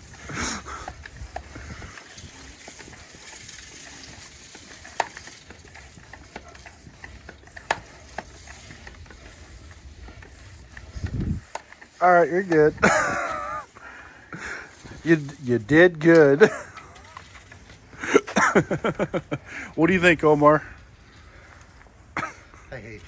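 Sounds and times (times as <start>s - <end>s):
hand tools clicking on metal: 0.0s - 21.9s.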